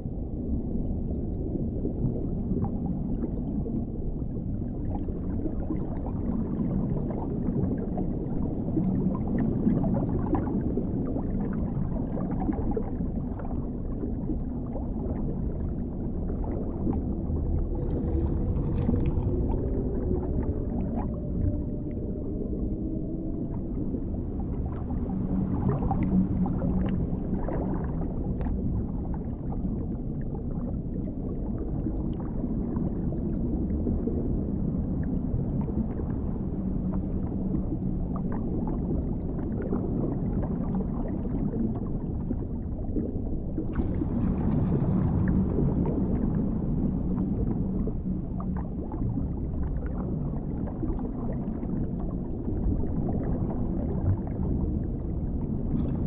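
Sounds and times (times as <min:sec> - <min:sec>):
deep muffled underwater rumble: 0:00.0 - 0:56.0
faint low hums: 0:00.0 - 0:56.0.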